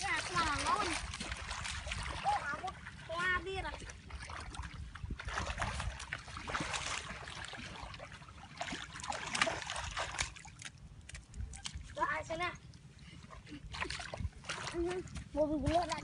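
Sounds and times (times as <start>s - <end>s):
feet splashing through muddy water: 0.0s - 16.0s.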